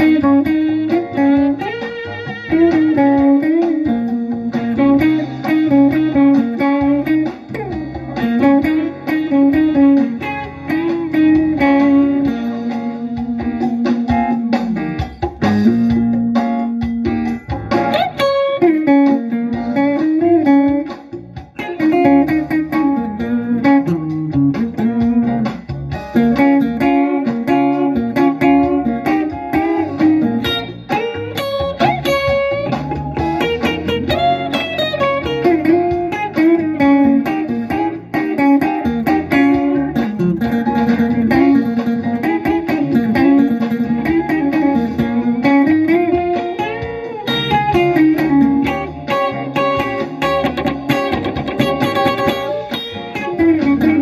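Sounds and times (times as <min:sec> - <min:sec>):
electric guitar playing jazz: 0:00.0 - 0:54.0.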